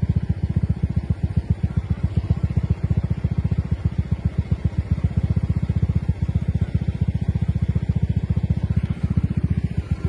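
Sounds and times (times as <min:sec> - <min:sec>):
helicopter rotor chop: 0:00.0 - 0:10.0.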